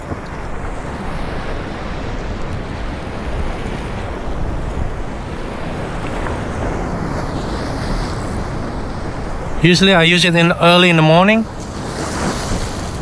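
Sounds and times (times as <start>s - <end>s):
waves washing against shore: 0.0s - 13.0s
wind buffeting microphone: 0.0s - 13.0s.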